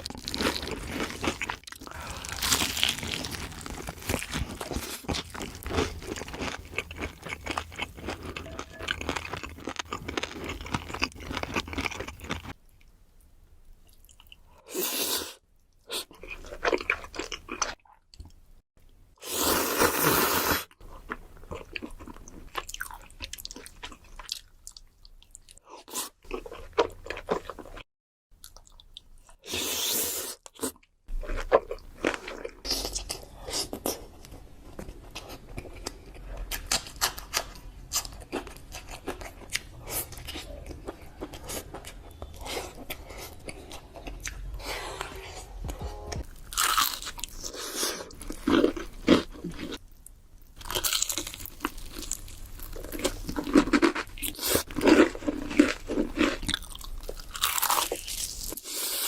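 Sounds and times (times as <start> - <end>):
crunching and chewing crisp food: 0.0 - 12.9, 15.7 - 18.4, 19.7 - 27.8, 28.4 - 45.4, 46.3 - 59.0.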